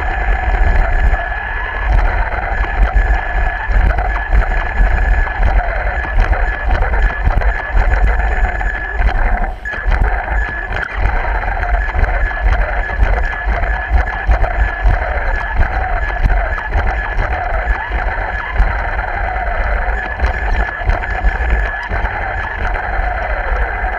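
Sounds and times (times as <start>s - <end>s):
motor and gear whine: 0.0s - 23.9s.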